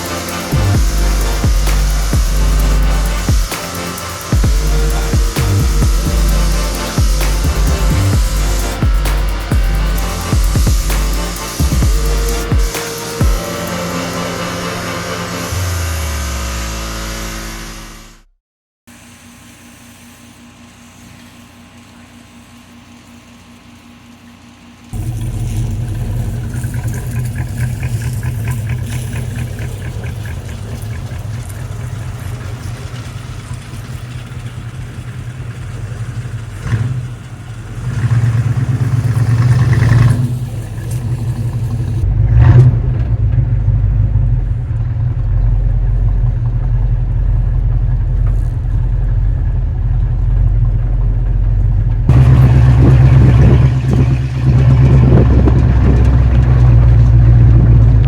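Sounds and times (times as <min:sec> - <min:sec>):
car engine running: 0:00.0 - 0:18.4, 0:25.0 - 0:58.0.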